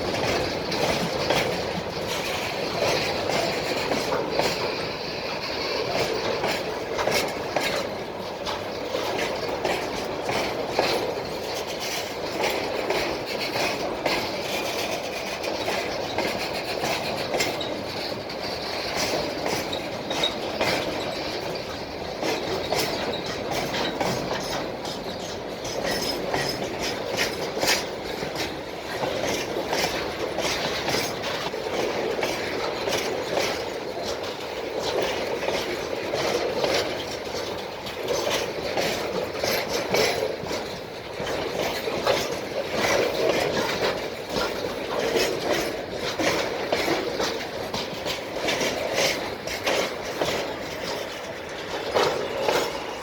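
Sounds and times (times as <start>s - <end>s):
train running gear rumble: 0.0s - 53.0s
train wheels clicking over rail joints: 0.0s - 53.0s.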